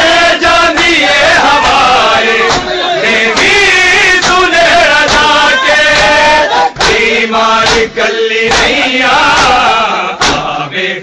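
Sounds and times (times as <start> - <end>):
crowd of men chanting: 0.0 - 11.0.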